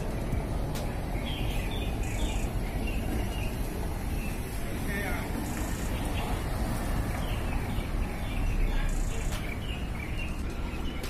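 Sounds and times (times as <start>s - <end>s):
low outdoor rumble: 0.0s - 11.0s
small birds chirping: 0.0s - 11.0s.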